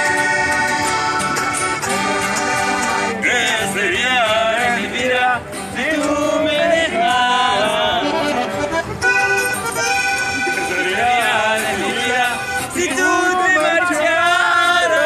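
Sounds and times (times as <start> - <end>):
accordion: 0.0 - 15.0
guitar: 0.0 - 15.0.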